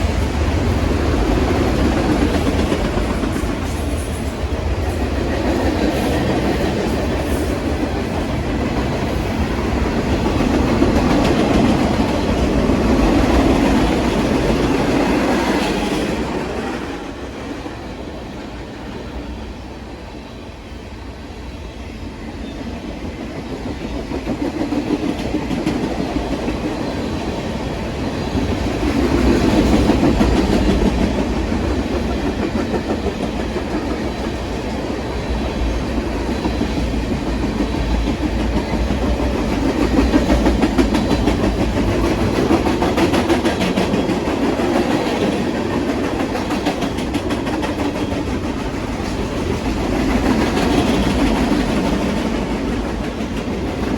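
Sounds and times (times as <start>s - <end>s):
train wheels clicking over rails: 0.0s - 19.4s, 22.2s - 53.9s.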